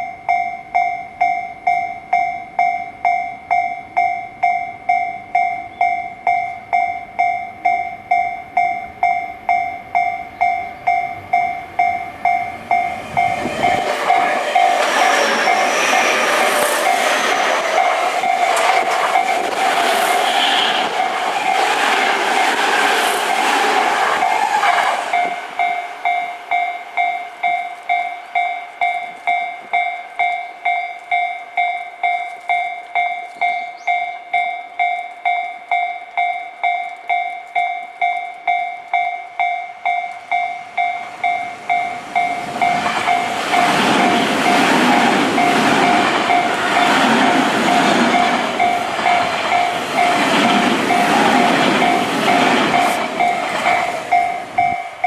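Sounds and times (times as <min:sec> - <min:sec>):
level crossing bell ringing: 0:00.0 - 0:19.4, 0:25.1 - 0:55.0
electric train rolling: 0:06.2 - 0:55.0.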